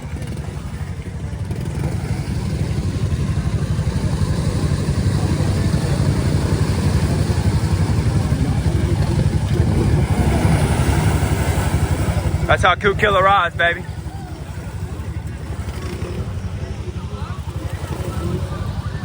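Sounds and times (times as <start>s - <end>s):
atv engine pulsing under throttle: 0.0s - 19.0s.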